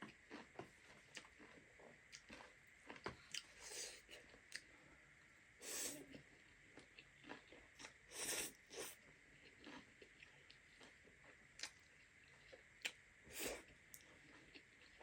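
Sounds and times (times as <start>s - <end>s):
chewing and biting: 0.0s - 4.7s, 6.0s - 15.0s.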